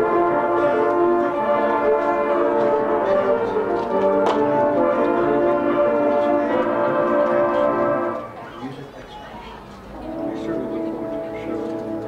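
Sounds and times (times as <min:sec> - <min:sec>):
brass band playing chords: 0:00.0 - 0:08.5, 0:09.8 - 0:12.0.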